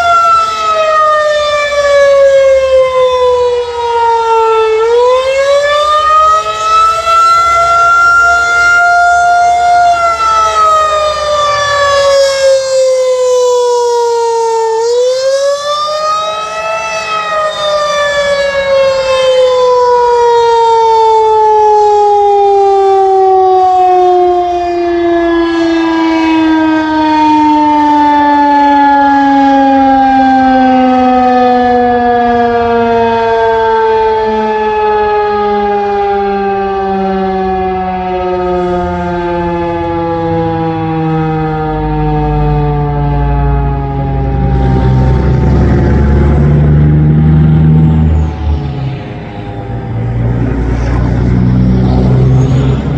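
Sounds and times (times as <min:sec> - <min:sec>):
warning siren wailing: 0:00.0 - 0:52.9.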